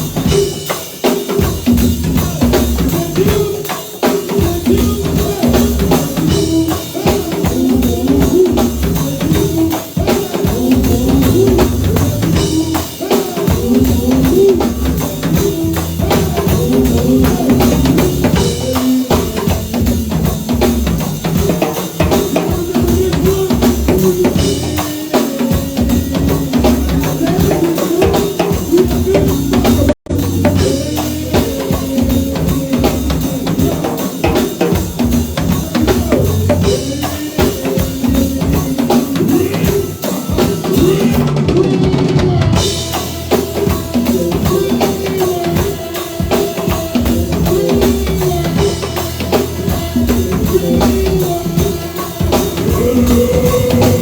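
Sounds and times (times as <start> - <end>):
drum kit beat: 0.0 - 54.0
live band playing: 0.0 - 54.0.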